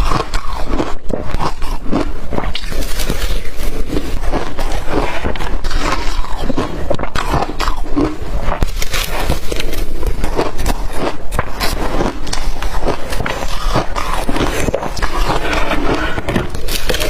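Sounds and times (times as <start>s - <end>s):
crunching ice being chewed: 0.0s - 17.0s.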